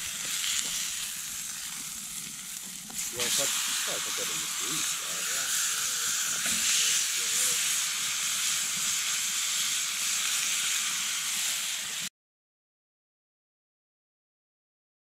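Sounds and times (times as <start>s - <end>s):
steak sizzling in a skillet: 0.0s - 12.1s.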